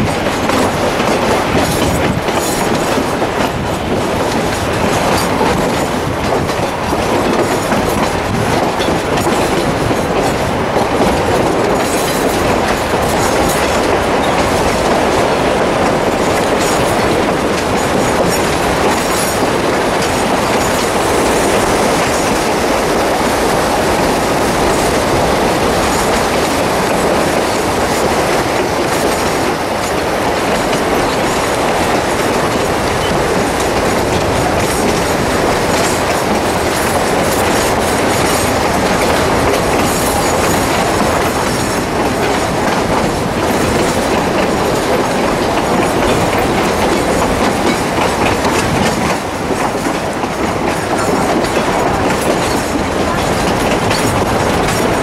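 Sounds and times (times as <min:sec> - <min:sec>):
train rumbling on track: 0:00.0 - 0:55.0
wheel clatter over rail joints: 0:00.0 - 0:55.0.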